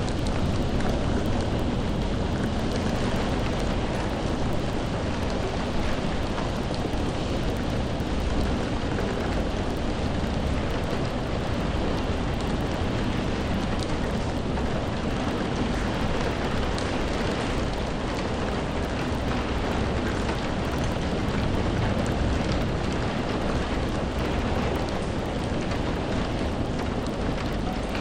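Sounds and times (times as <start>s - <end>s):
raindrop ticks: 0.0s - 28.0s
steady rain hiss: 0.0s - 28.0s.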